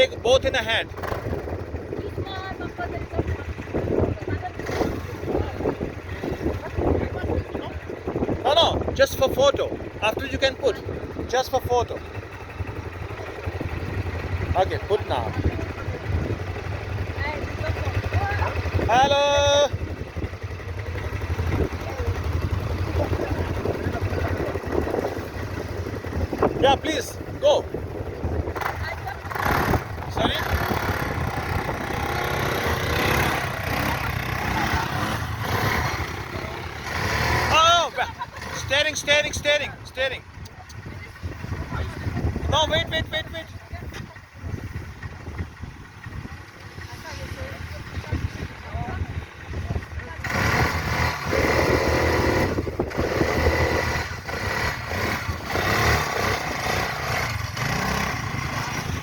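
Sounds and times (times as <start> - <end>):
quad bike engine idling: 0.0 - 59.0.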